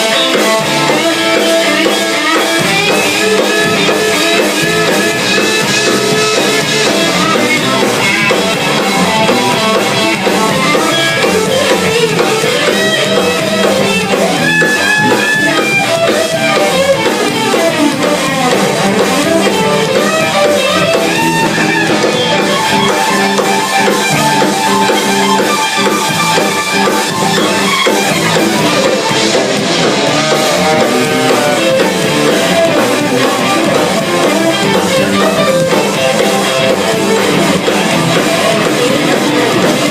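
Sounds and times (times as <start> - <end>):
drum kit playing: 0.0 - 39.9
electric guitar playing: 0.0 - 39.9.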